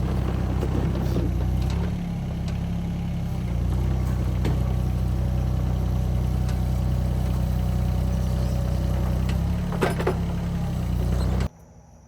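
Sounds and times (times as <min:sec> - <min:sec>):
engine idling: 0:00.0 - 0:11.5.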